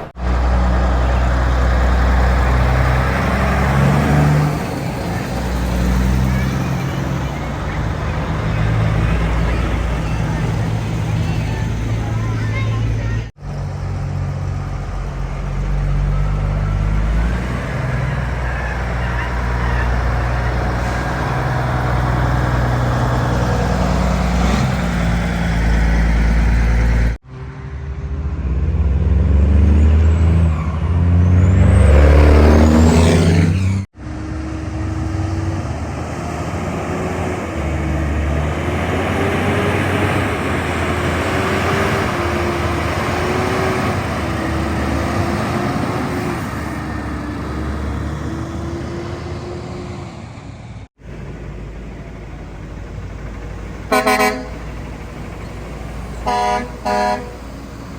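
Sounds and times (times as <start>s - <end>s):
truck diesel engines shifting gears: 0.0s - 57.9s.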